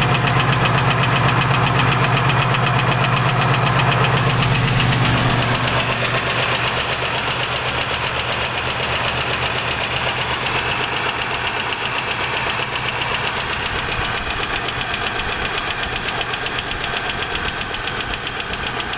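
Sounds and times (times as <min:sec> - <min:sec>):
engine running with knock: 0:00.0 - 0:18.9.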